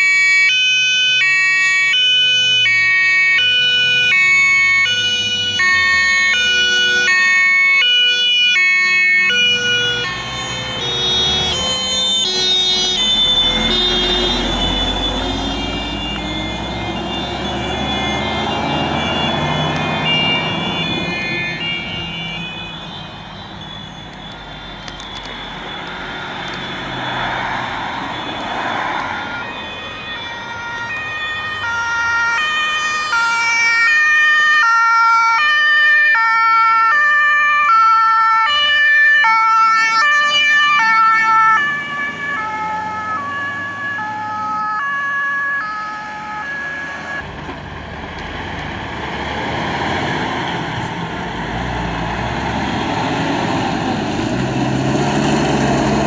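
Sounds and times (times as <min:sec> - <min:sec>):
two-tone emergency vehicle horns: 0:00.0 - 0:47.3
truck engine: 0:00.0 - 0:56.0.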